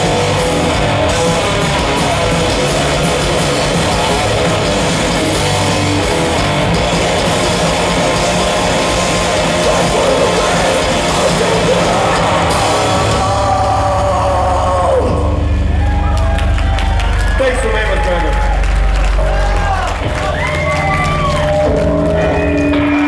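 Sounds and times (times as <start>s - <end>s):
heavy metal band playing loud: 0.0s - 23.0s.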